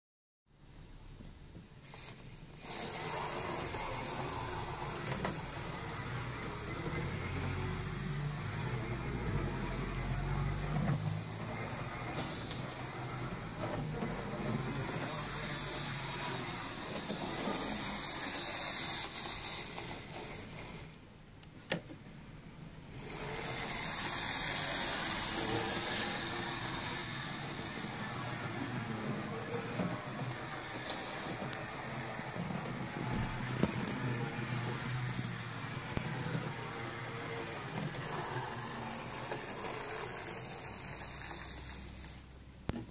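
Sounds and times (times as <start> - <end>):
model train motors whirring: 1.8 - 21.0, 22.8 - 42.9.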